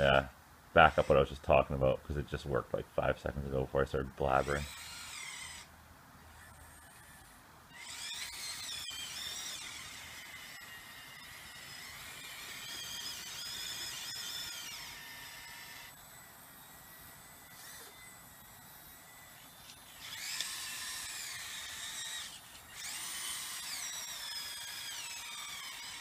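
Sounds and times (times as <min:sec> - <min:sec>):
small electric motors whining: 0:00.8 - 0:01.4, 0:04.2 - 0:26.0.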